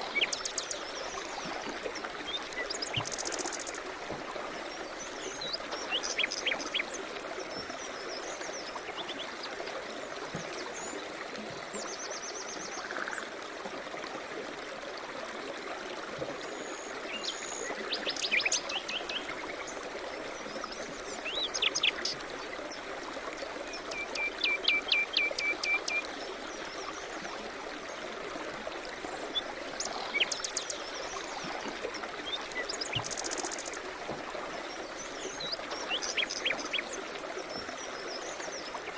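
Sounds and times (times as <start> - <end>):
flowing river water: 0.0 - 38.9.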